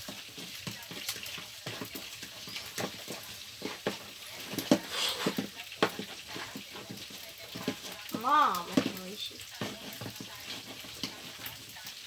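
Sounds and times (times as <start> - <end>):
slime squelching when stirred: 0.0 - 12.0.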